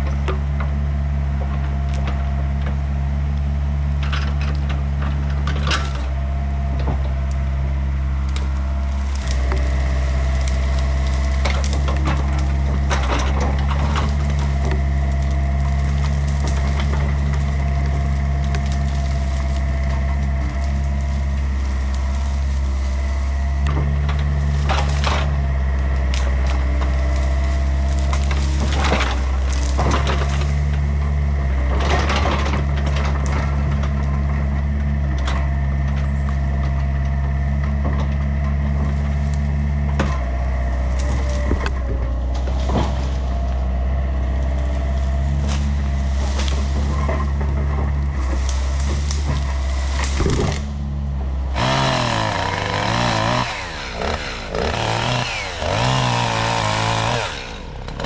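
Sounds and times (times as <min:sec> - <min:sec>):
excavator diesel engine running: 0:00.0 - 0:58.0
wood cracking and splintering: 0:00.0 - 0:58.0.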